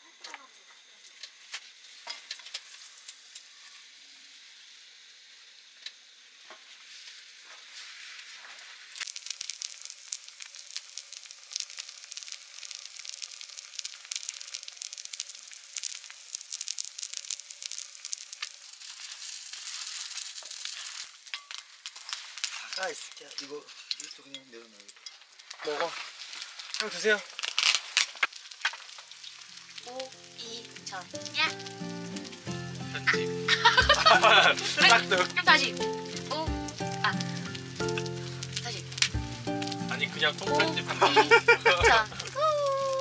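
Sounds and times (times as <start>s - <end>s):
pancake sizzling in hot oil: 0.0s - 43.0s.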